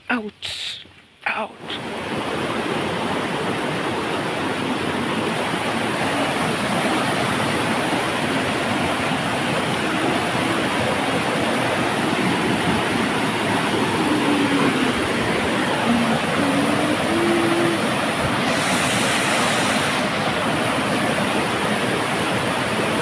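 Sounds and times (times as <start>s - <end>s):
stream rushing over rocks: 0.6s - 23.0s.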